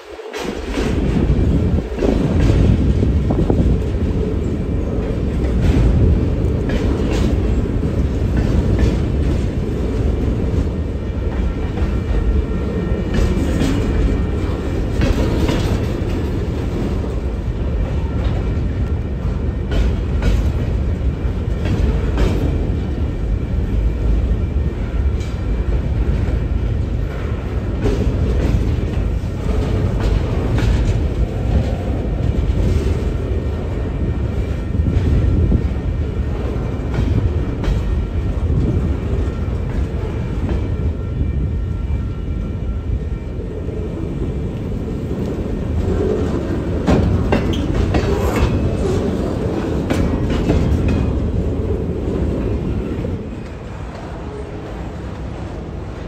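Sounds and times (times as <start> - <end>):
wheels clacking over rail joints: 0.0 - 40.9, 44.0 - 56.0
steel wheels rumbling on rail: 0.0 - 56.0.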